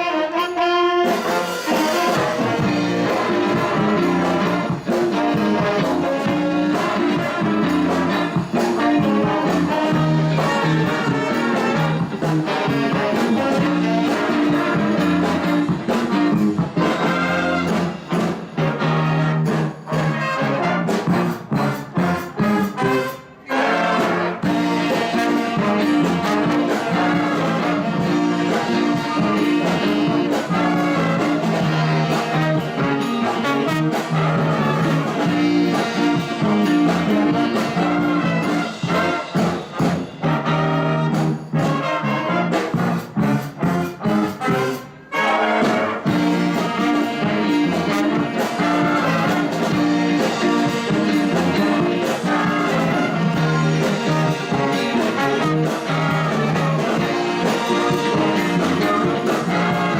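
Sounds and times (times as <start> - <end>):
jazz band with brass horns: 0.0 - 59.9.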